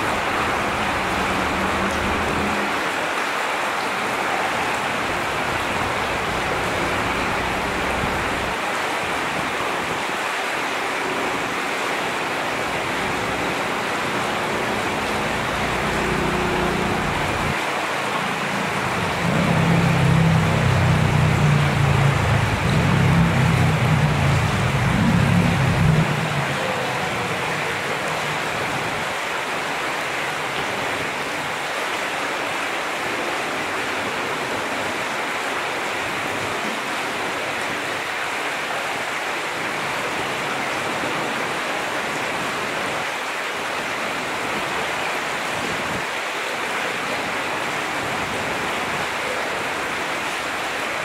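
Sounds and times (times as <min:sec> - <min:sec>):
water rushing over rocks: 0:00.0 - 0:51.0.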